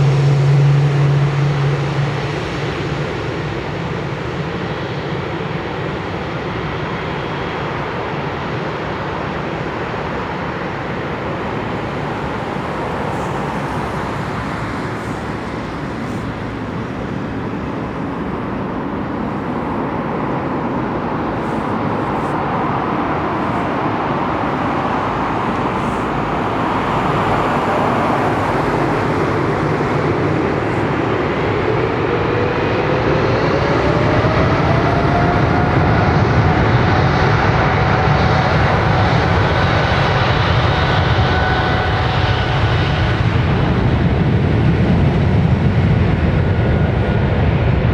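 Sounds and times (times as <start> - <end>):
jet engines rumbling on takeoff: 0.0 - 47.9
rising engine whine: 0.0 - 47.9.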